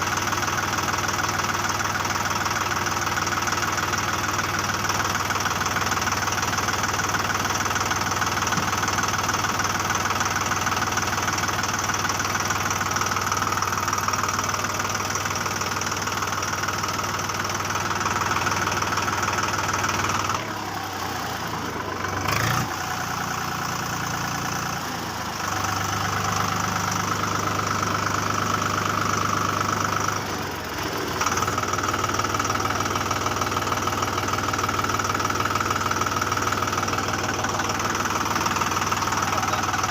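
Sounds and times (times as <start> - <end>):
motor knocking idle: 0.0 - 39.9.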